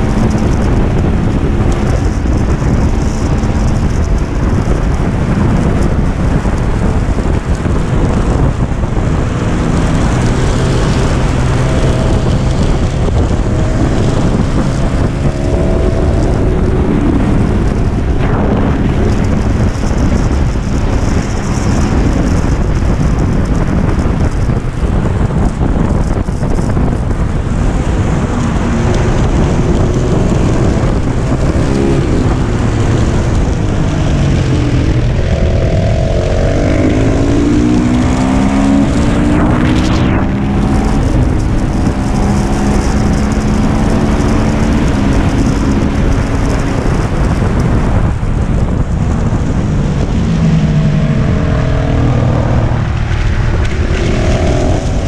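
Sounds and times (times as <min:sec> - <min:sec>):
heavy wind rush: 0:00.0 - 0:55.0
motorcycle engine revving: 0:00.0 - 0:55.0.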